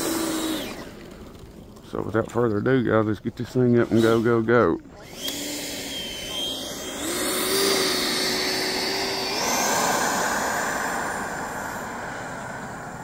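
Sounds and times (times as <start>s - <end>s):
electric ducted fan whining: 0.0s - 13.0s.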